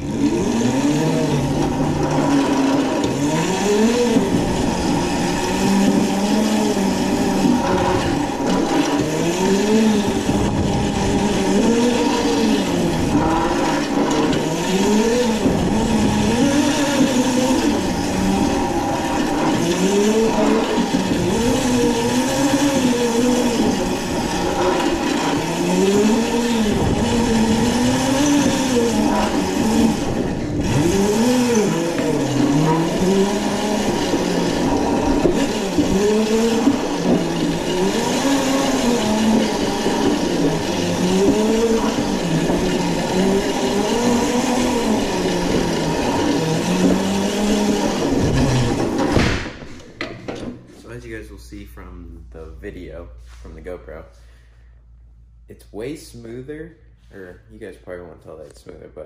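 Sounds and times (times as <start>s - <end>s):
electric motor whining: 0.0s - 50.0s.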